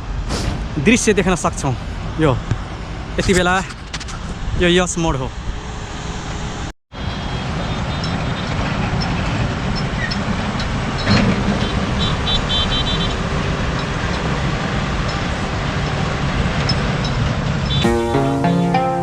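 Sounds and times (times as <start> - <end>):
highway traffic rumble: 0.0 - 19.0.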